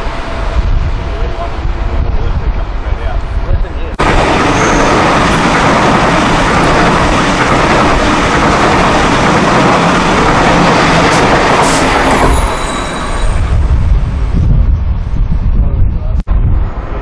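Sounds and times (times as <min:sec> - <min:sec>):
train running past: 0:00.0 - 0:14.3
low train rumble: 0:00.0 - 0:17.0.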